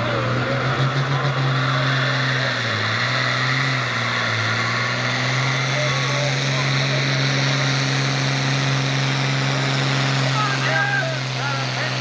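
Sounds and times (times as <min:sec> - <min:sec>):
tractor diesel engine revving hard: 0:00.0 - 0:12.0.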